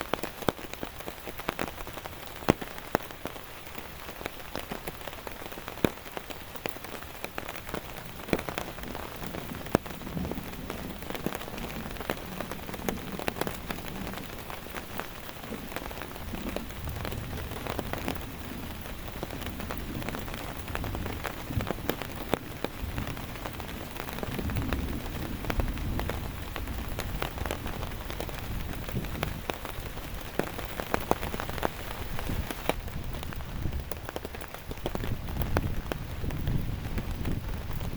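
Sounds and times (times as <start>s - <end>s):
heavy rain: 0.0s - 37.9s
raindrops hitting a surface: 0.0s - 37.9s.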